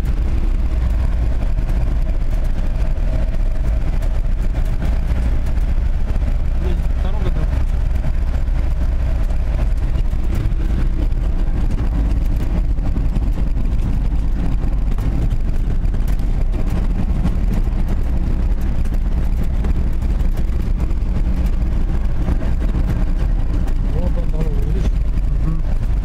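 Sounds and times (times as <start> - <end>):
engine and tyre rumble: 0.0 - 26.0
knocks and rattles: 0.0 - 26.0.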